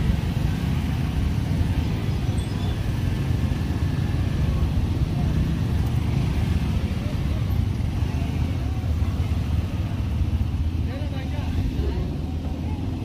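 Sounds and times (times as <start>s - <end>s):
scooter and motorcycle engines rumbling: 0.0s - 13.0s.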